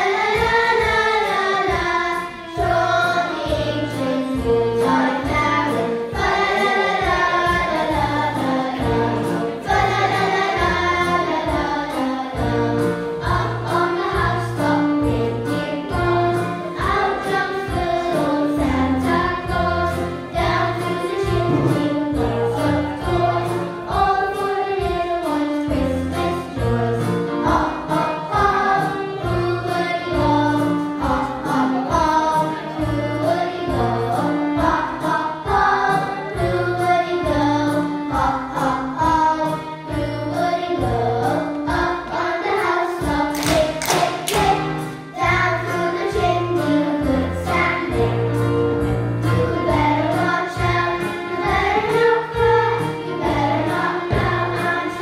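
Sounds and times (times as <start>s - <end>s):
children's choir singing a hymn: 0.0s - 55.0s.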